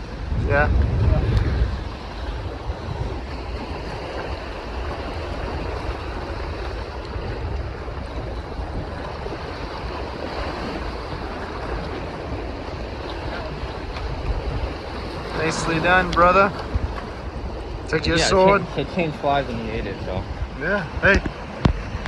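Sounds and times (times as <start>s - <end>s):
water washing against boat: 0.0s - 22.0s
wind buffeting microphone: 0.0s - 22.0s.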